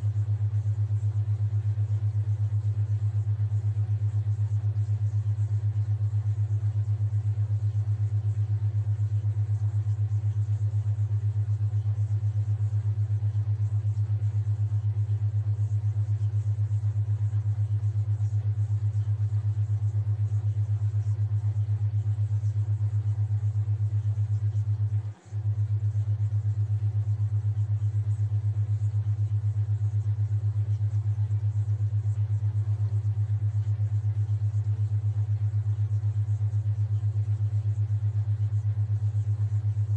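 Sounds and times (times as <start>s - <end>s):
pulsing low hum tone: 0.0s - 39.9s.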